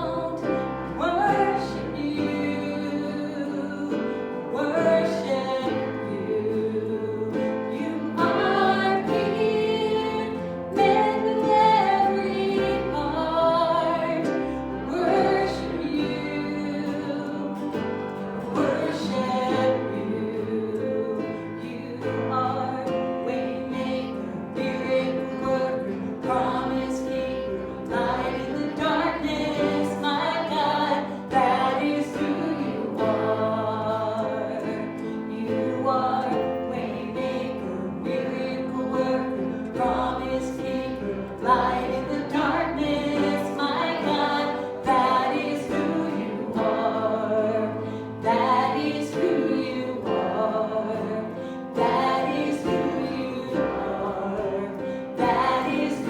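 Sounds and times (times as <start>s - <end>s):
voices singing: 0.0s - 56.0s.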